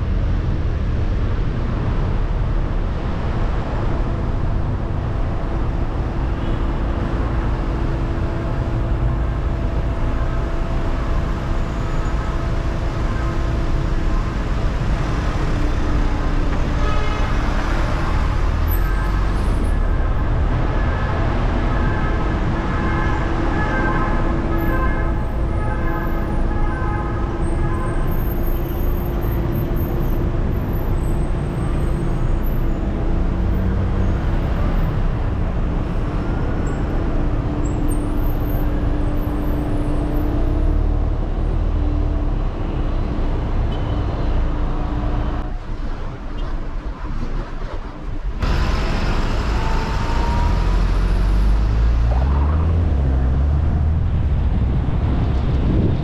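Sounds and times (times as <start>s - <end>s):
car engine and tyres rumbling: 0.0s - 56.0s
city traffic: 0.0s - 56.0s.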